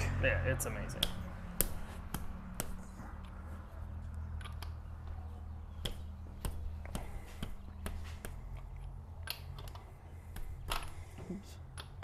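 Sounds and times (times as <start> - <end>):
low steady hum: 0.0 - 12.0
tools clicking and tapping: 0.9 - 12.0.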